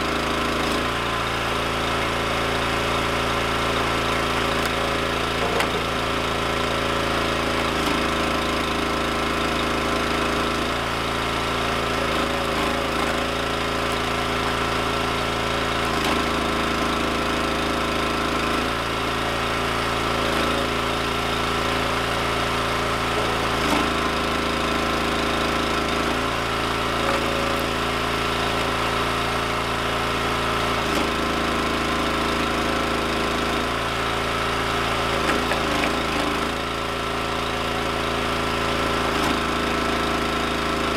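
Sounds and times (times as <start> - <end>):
small gas engine running: 0.0 - 40.9.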